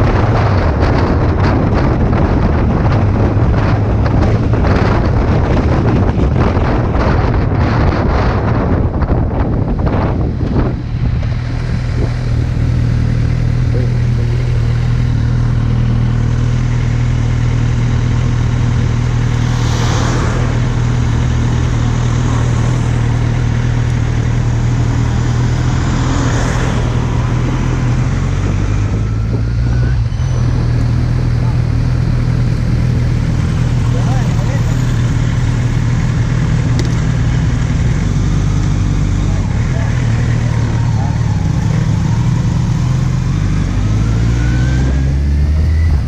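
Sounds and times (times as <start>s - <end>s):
wind rushing over microphone: 0.0s - 14.3s, 15.1s - 46.0s
motorcycle engine cruising: 0.0s - 46.0s.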